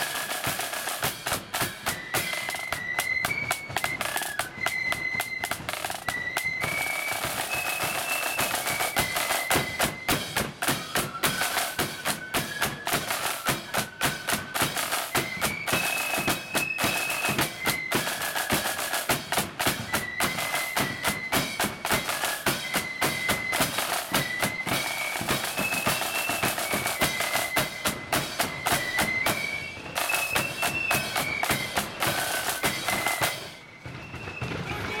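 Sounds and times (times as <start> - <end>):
flutes playing melody: 0.0 - 35.0
snare drum strokes: 0.0 - 35.0.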